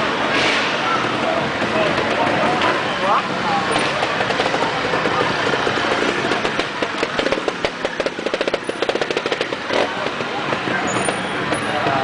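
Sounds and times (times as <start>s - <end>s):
motorcycle engine puttering: 1.0s - 12.0s.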